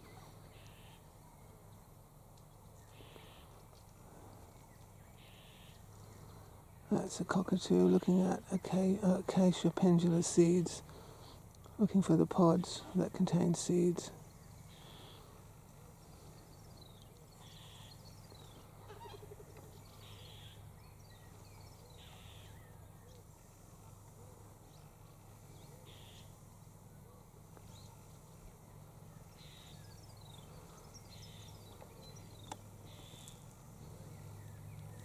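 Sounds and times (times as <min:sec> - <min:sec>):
faint birds calling: 0:00.0 - 0:35.0
steady low hum: 0:00.0 - 0:35.0.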